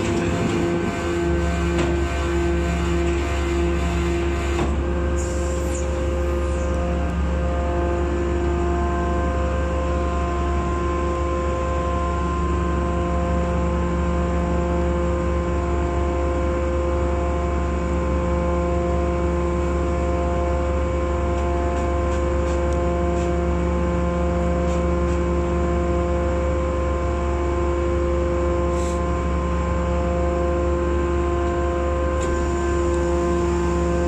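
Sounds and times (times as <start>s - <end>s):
hydraulic power unit humming: 0.0s - 34.0s.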